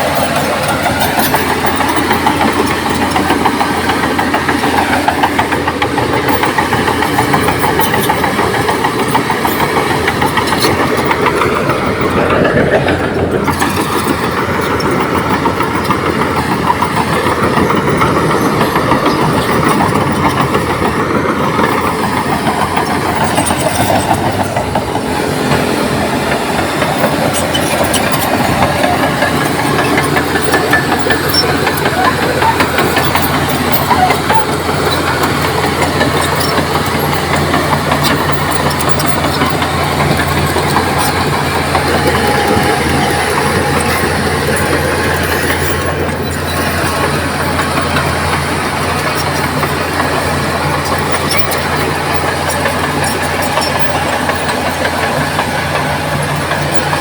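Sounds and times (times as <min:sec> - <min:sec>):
diesel engine under load: 0:00.0 - 0:57.0
steel tracks clanking: 0:00.0 - 0:57.0.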